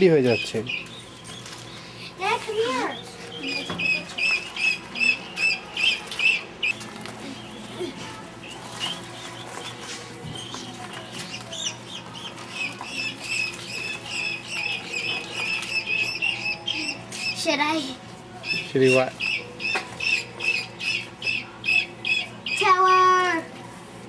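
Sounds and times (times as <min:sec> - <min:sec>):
ducklings peeping: 0:00.0 - 0:17.6, 0:18.4 - 0:23.3.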